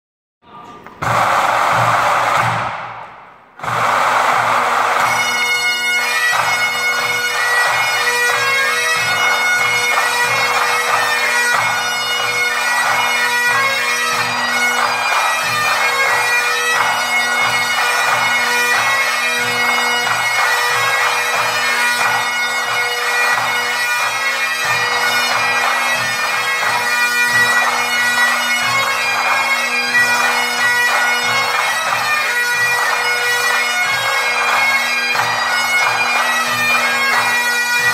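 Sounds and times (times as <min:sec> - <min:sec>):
bagpipe band playing: 0:01.0 - 0:37.9.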